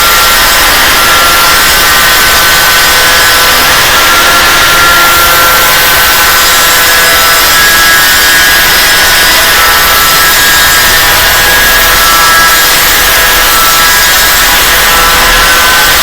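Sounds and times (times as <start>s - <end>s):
angle grinder grinding metal drum: 0.0s - 16.0s.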